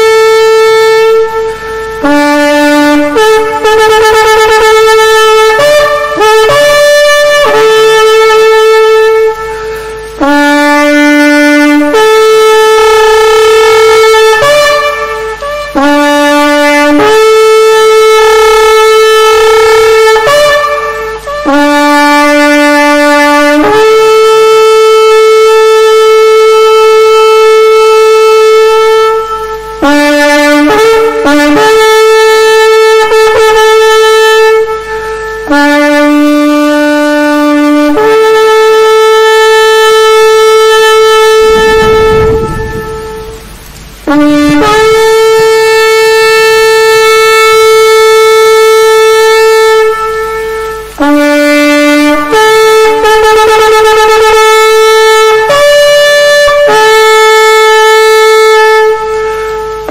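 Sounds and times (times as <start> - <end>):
ram's horn blasts: 0.0 - 59.9.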